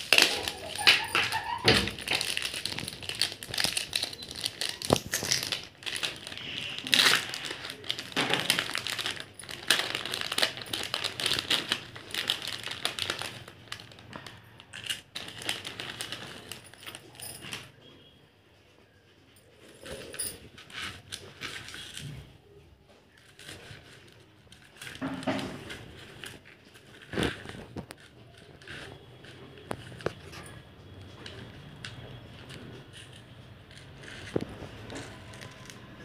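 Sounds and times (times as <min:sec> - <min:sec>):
plastic and foil bags crinkling: 0:00.0 - 0:18.1, 0:19.5 - 0:36.0.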